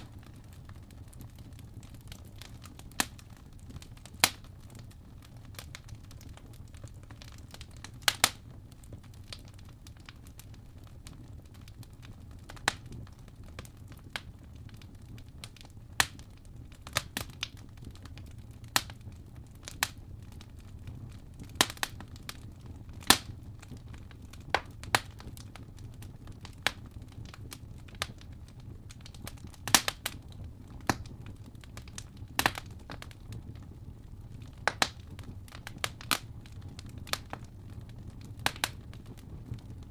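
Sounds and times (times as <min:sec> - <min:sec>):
fire crackling with pops: 0:00.0 - 0:39.9
low fire rumble: 0:00.0 - 0:39.9.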